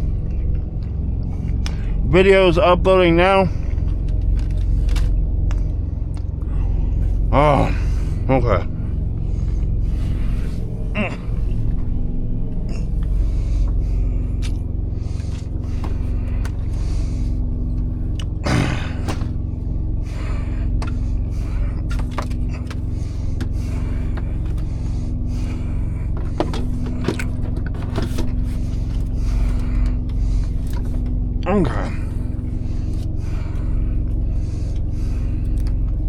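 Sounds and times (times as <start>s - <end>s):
diesel generator droning: 0.0s - 36.0s.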